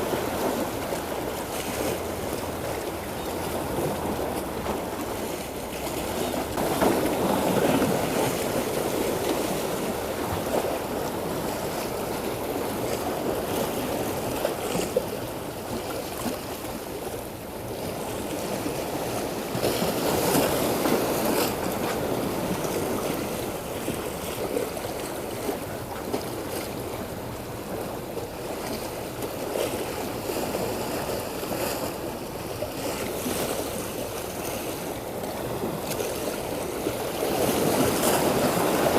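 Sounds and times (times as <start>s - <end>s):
sea water splashing against boat: 0.0s - 38.9s.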